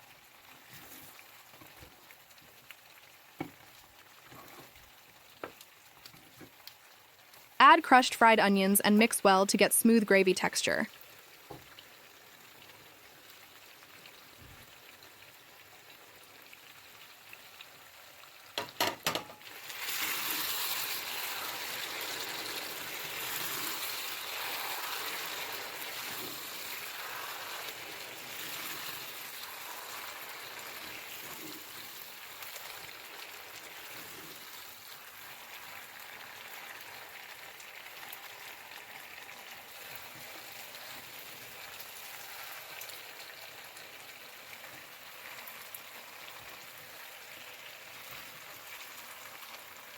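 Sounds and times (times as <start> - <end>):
curry sizzling and bubbling in a pan: 0.0 - 7.6, 10.9 - 49.9.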